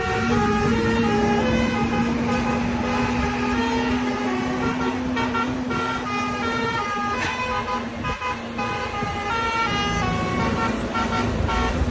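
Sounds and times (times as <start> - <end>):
bus engine rumble: 0.0 - 11.9
multi-tone bus horn melody: 0.0 - 11.9.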